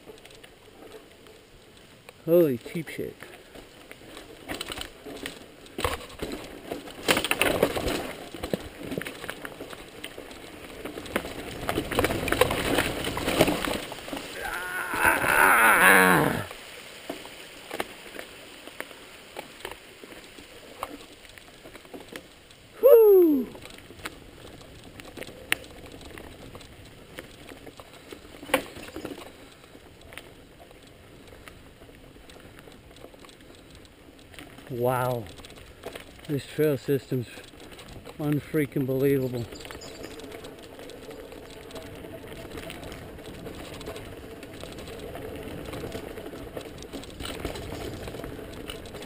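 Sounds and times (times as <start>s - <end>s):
bike rattling over rocks: 0.0s - 49.0s
bike tyres rolling: 0.0s - 49.0s.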